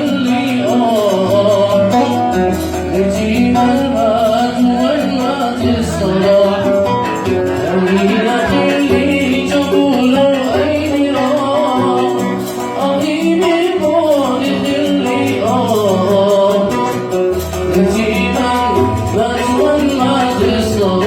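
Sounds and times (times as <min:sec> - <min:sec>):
man singing melismatic melody: 0:00.0 - 0:21.0
plucked oud: 0:00.0 - 0:21.0.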